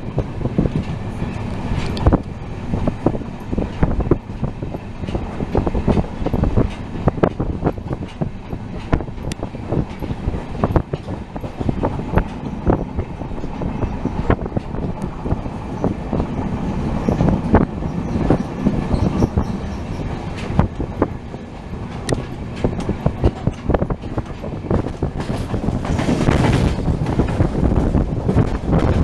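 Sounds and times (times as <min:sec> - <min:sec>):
train rumbling on track: 0:00.0 - 0:29.0
wheels knocking on rail joints: 0:00.0 - 0:29.0.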